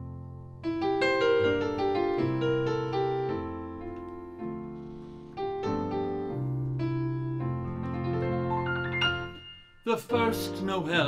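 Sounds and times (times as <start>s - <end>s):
piano chords on keyboard: 0.0s - 11.0s.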